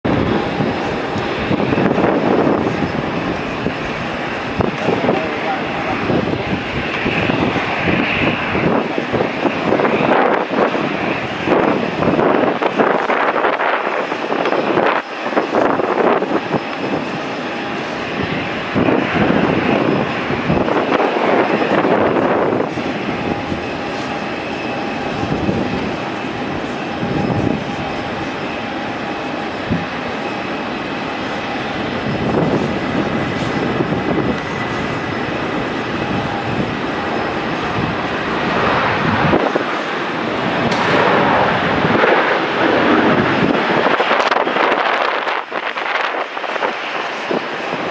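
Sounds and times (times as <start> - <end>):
jet engines roaring on takeoff: 0.0 - 47.9.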